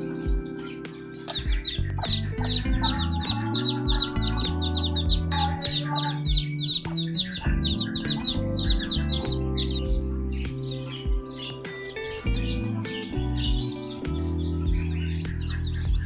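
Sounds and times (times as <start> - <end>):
background music: 0.0 - 16.0
chicks peeping: 0.0 - 16.0.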